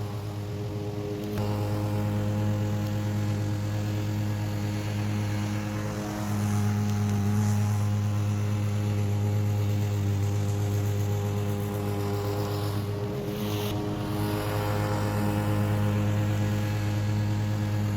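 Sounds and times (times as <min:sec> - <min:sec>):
lawn mower engine running: 0:00.0 - 0:17.9.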